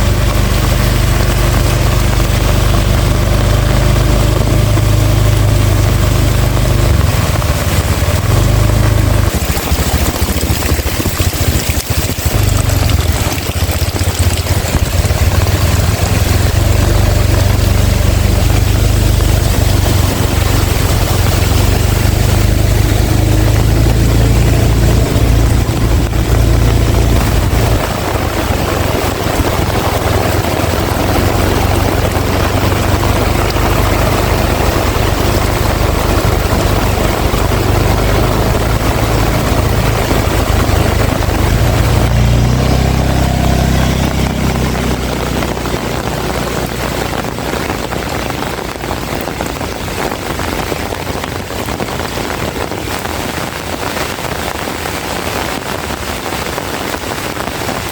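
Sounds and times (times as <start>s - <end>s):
heavy rain pouring: 0.0s - 57.9s
wind gusting over microphone: 0.0s - 57.9s.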